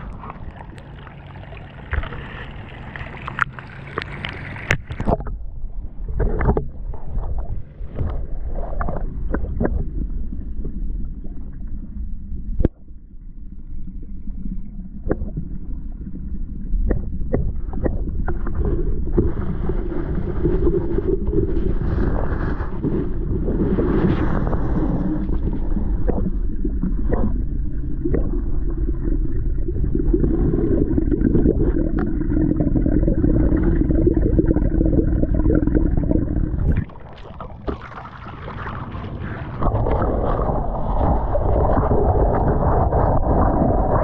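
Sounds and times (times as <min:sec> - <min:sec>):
water splashing and sloshing: 0:00.0 - 0:13.0, 0:14.9 - 0:44.0
muffled underwater sound: 0:00.0 - 0:44.0.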